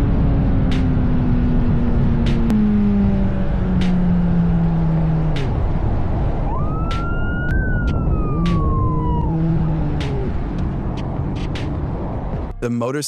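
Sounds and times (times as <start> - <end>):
police siren wailing: 0.0 - 12.2
vehicle engine and road noise: 0.0 - 12.7.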